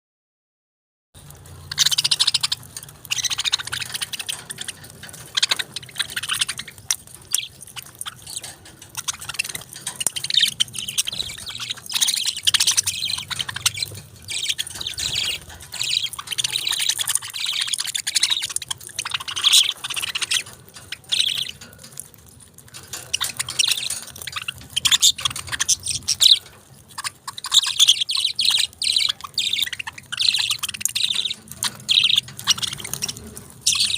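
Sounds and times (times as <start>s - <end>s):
budgerigars chirping: 1.4s - 33.9s.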